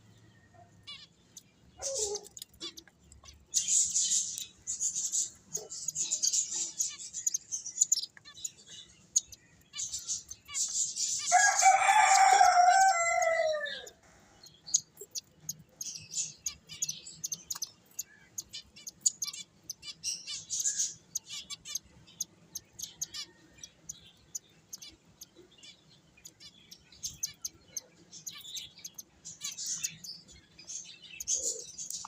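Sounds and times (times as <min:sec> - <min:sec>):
finches chirping: 0:00.0 - 0:32.0.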